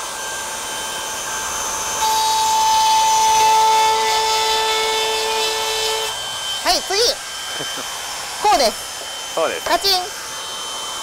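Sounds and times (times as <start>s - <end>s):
router cutting wood with high whine: 0.0s - 11.0s.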